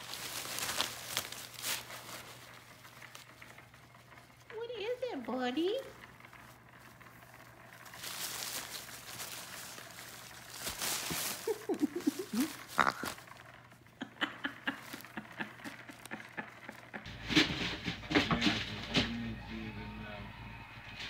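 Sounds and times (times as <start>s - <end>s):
wrapping paper rustling and crinkling: 0.0s - 19.1s.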